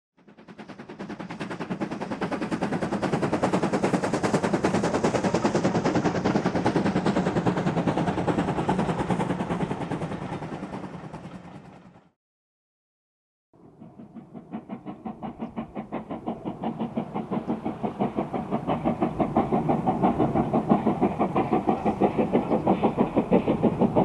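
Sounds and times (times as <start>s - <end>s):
steam locomotive exhaust beats: 0.2s - 12.0s, 13.6s - 24.0s.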